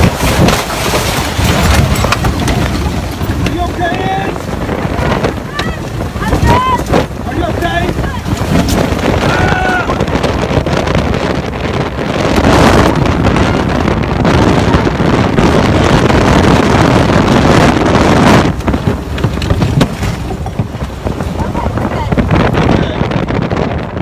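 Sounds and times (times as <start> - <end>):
wind blasting over microphone: 0.0 - 24.0.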